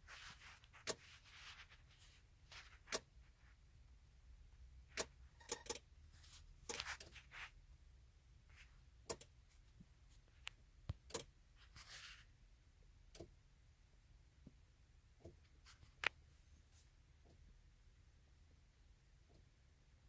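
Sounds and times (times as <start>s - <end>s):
soft hiss: 0.0s - 13.3s, 14.2s - 20.0s.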